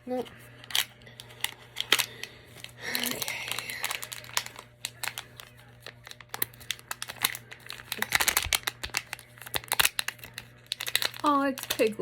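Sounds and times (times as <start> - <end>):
packaging crinkling and tearing: 0.1 - 12.0.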